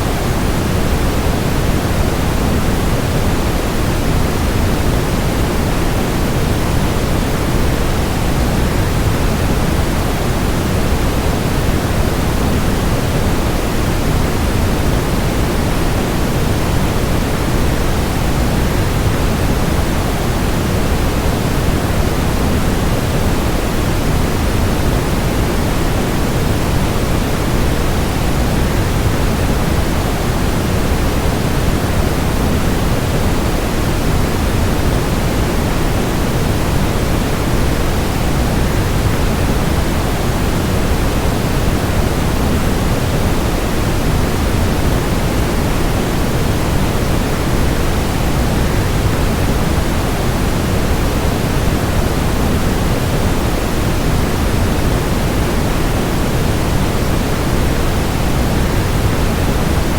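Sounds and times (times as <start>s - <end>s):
white noise: 0.0s - 59.9s.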